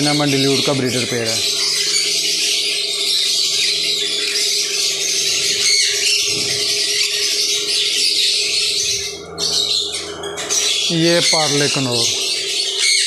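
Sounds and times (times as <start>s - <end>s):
parrots screeching and squawking: 0.0s - 13.0s.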